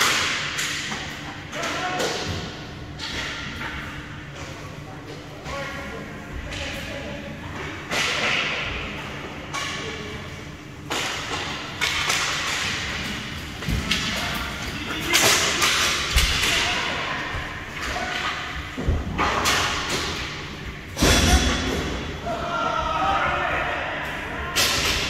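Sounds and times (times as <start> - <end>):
hockey sticks hitting puck: 0.0 - 5.7, 6.4 - 22.4, 24.6 - 25.0.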